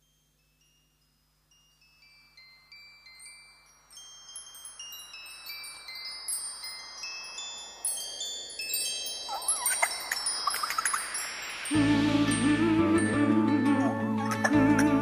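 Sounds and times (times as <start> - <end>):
tinkling chime notes: 0.0 - 15.0.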